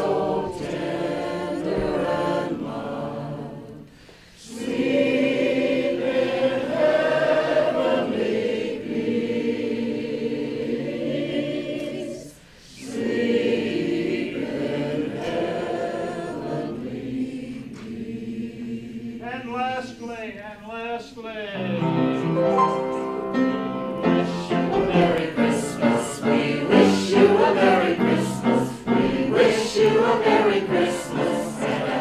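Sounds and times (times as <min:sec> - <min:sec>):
group singing in harmony: 0:00.0 - 0:19.3, 0:21.6 - 0:32.0.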